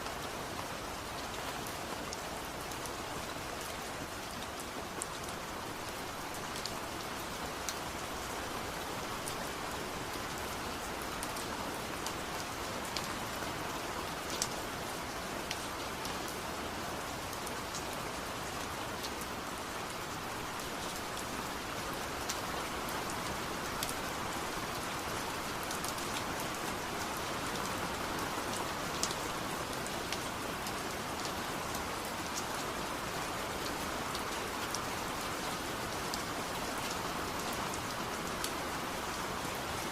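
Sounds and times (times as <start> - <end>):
rain splashing on hard surfaces: 0.0 - 39.9.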